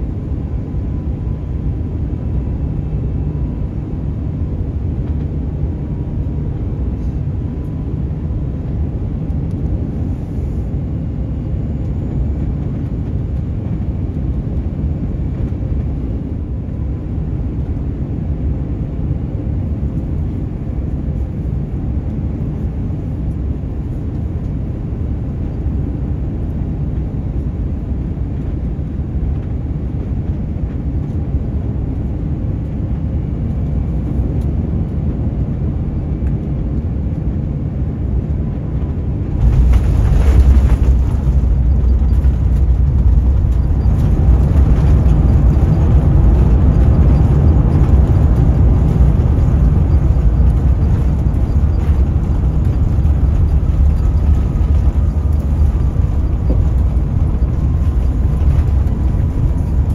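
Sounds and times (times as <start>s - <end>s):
airplane cabin rumble: 0.0s - 59.9s
plane rolling on runway: 0.0s - 59.9s.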